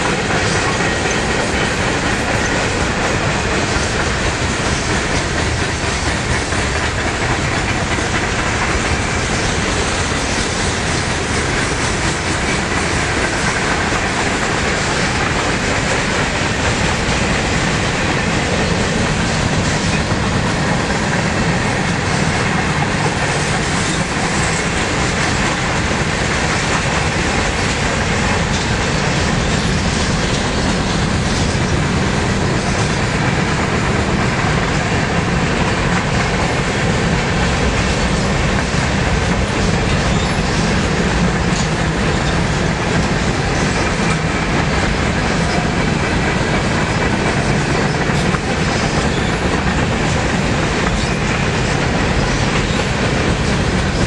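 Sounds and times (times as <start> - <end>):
clicks of train wheels: 0.0 - 54.0
freight train wheels rumbling: 0.0 - 54.0.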